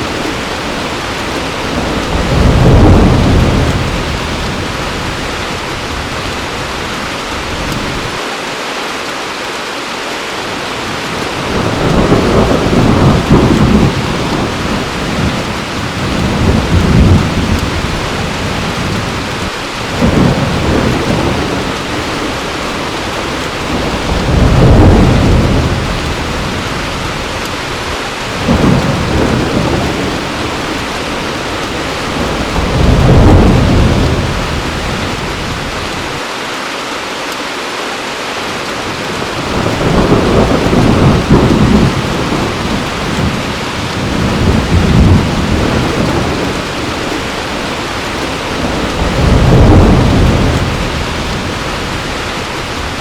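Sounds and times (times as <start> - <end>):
thunder rumbling: 0.0 - 8.2, 10.7 - 36.2, 38.8 - 53.0
heavy rain falling: 0.0 - 53.0.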